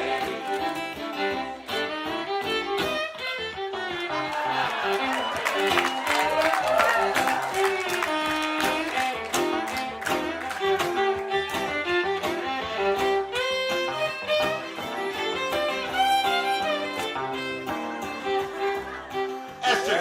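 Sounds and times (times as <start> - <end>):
fiddle melody: 0.0 - 20.0
strummed guitar: 0.0 - 20.0.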